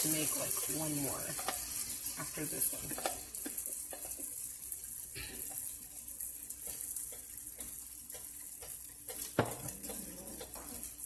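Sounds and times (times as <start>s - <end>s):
batter sizzling in a pan: 0.0s - 11.0s.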